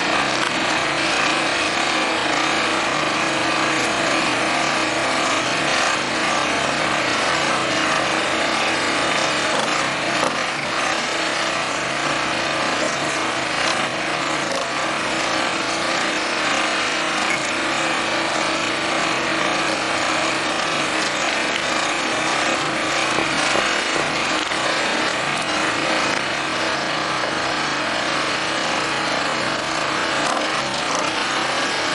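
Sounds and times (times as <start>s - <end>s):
small excavator running: 0.0s - 31.9s.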